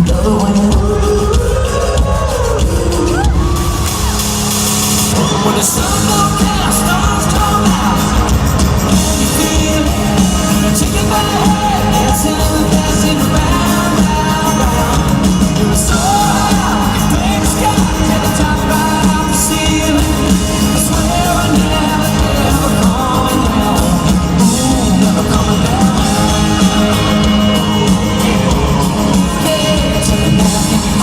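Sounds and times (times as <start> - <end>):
crowd yelling and whooping: 0.0 - 31.0
live band with singing: 0.0 - 31.0.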